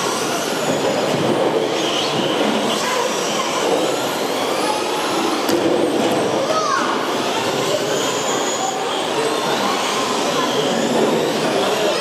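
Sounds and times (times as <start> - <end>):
rc trucks whirring motors: 0.0 - 12.0.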